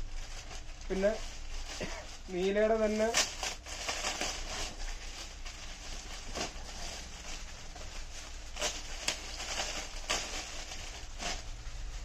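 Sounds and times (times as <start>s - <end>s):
fabric rustles and knocks: 0.4s - 12.0s.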